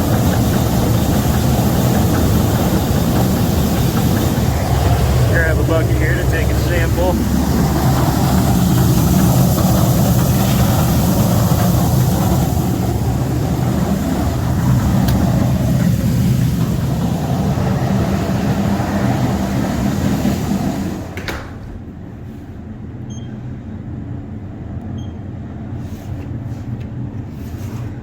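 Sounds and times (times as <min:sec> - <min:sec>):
idling machinery hum: 0:00.0 - 0:28.0.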